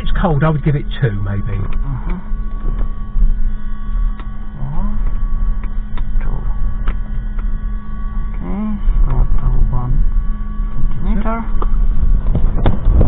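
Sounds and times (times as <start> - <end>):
low rumble: 0.0 - 13.0
steady electrical hum: 0.0 - 13.0.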